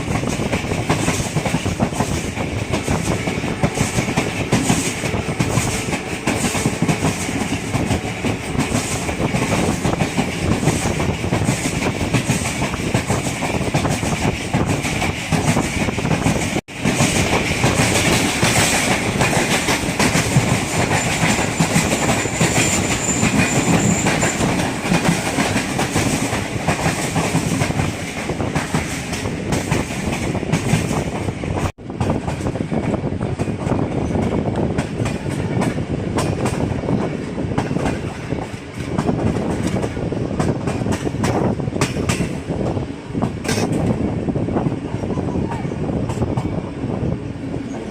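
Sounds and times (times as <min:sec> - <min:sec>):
train rumble: 0:00.0 - 0:47.9
wheels clacking over rail joints: 0:00.1 - 0:42.6, 0:43.2 - 0:44.0.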